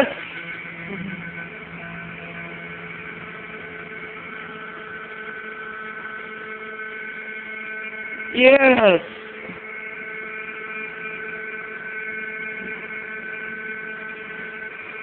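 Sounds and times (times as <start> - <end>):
television electrical hum: 0.0 - 15.0.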